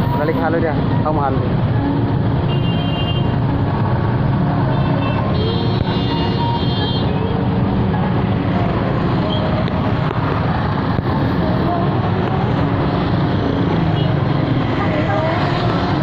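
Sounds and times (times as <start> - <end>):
traffic engine rumble: 0.0 - 16.0.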